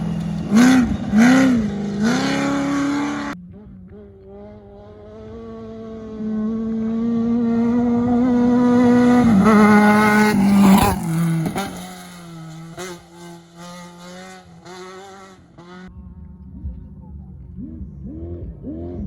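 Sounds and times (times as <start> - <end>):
off-road vehicle engine passing: 0.0 - 19.0.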